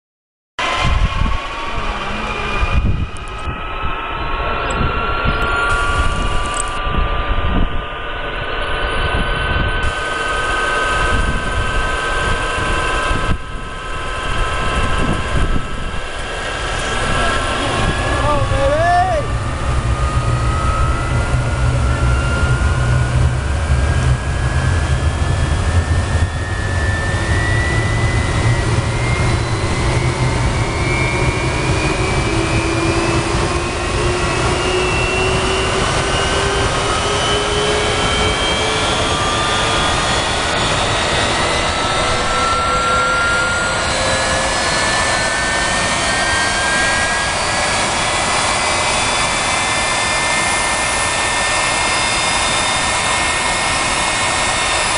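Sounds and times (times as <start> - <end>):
jet engine roar: 0.6 - 54.9
rising jet engine whine: 0.6 - 54.9.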